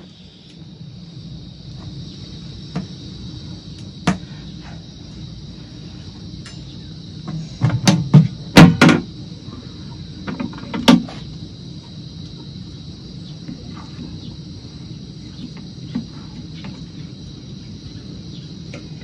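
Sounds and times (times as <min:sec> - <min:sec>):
gas burner hissing: 0:00.0 - 0:19.0.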